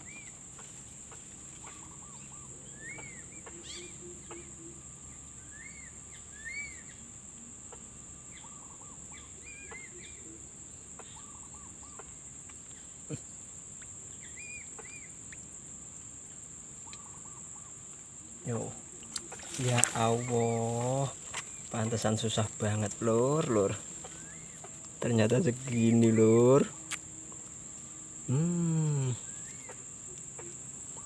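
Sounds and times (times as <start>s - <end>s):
chirping bird calls: 0.0s - 15.5s, 16.8s - 31.0s
insect chorus drone: 0.0s - 31.0s.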